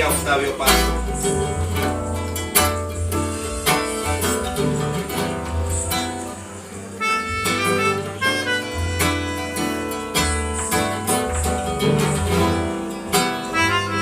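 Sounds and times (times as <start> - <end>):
held melody line: 0.0 - 14.0
steady bass: 0.0 - 14.0
strummed guitars: 0.0 - 14.0.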